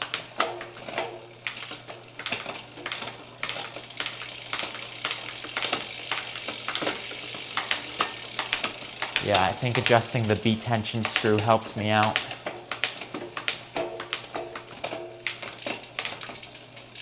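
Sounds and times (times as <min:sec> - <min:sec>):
bicycle drivetrain clicking and whirring: 0:00.0 - 0:17.0.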